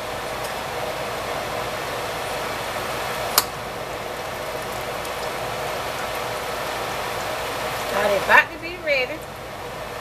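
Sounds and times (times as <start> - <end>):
frying in hot oil sizzling: 0.0 - 10.0.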